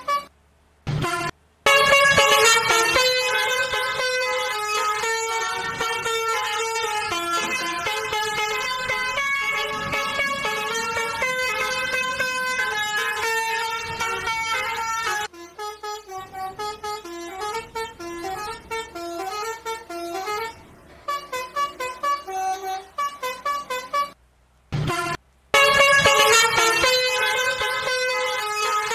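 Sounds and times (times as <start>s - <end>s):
bus multi-tone horn tune: 0.0s - 0.3s, 0.9s - 24.2s, 24.8s - 28.9s.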